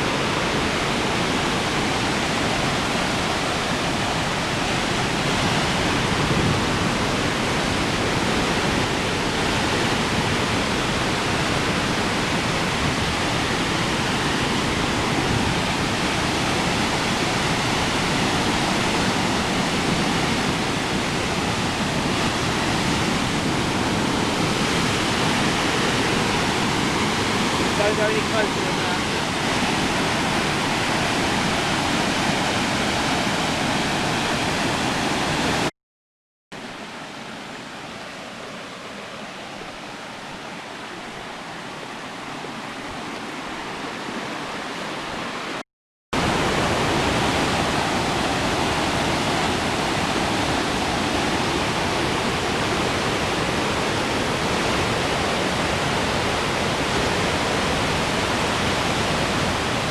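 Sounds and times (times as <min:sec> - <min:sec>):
waterfall rushing: 0:00.0 - 0:35.7, 0:36.6 - 0:45.6, 0:46.2 - 0:59.9.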